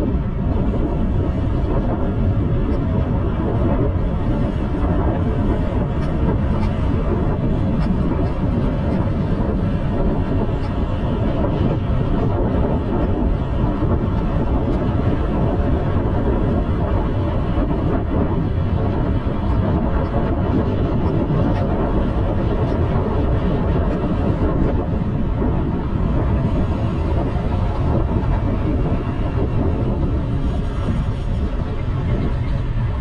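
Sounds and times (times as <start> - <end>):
road and traffic noise: 0.0 - 33.0
wind rumble on microphone: 0.0 - 33.0.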